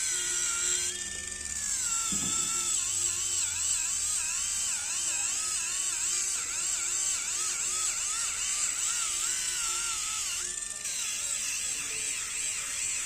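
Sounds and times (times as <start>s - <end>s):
callus remover motor whining: 0.0s - 13.0s.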